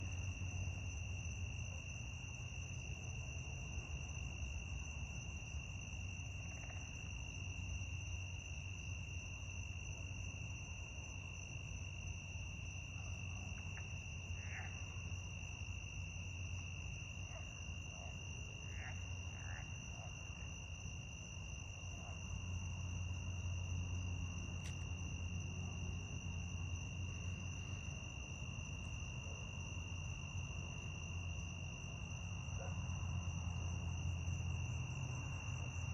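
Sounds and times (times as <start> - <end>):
crickets trilling: 0.0 - 35.9.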